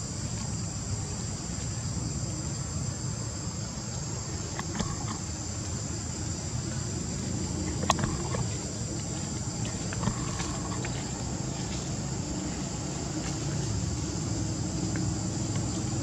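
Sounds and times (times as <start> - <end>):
insects droning: 0.0 - 16.0
low steady rumble: 0.0 - 16.0.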